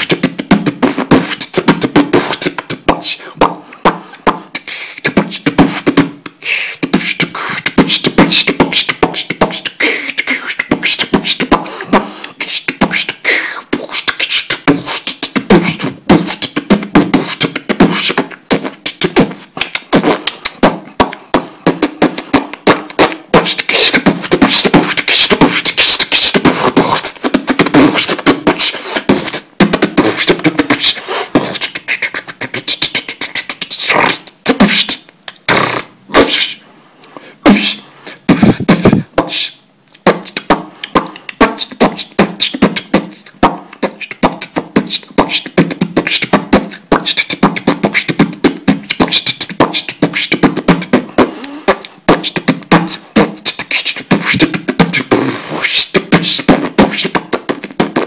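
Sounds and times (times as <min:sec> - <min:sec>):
man beatboxing: 0:00.0 - 0:36.6, 0:37.4 - 0:58.0.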